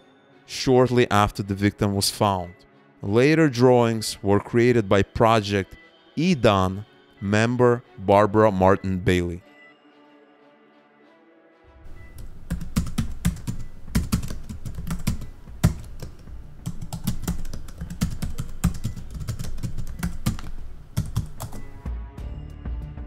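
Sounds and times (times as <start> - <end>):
faint background music: 0.0 - 23.0.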